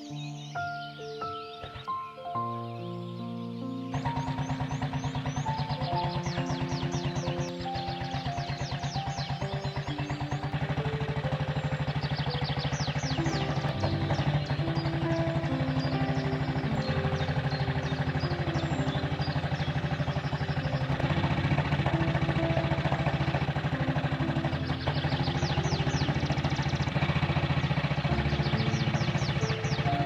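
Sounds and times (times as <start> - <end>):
music: 0.0 - 30.0
motorcycle engine running: 0.1 - 2.1, 2.8 - 30.0.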